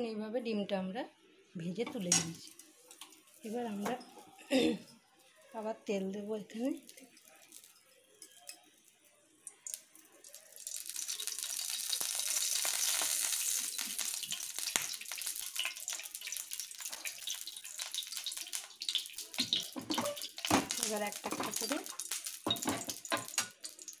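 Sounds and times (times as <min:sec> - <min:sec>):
oil sizzling in a pan: 0:01.8 - 0:24.0.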